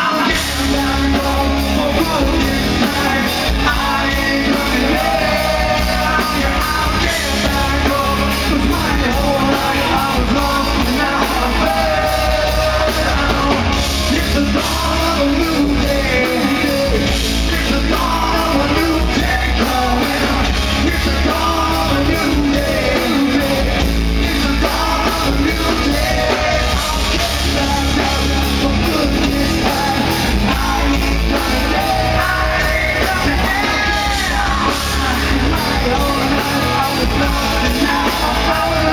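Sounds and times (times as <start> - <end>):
live rock band playing: 0.0 - 38.9
man singing and yelling: 0.0 - 38.9.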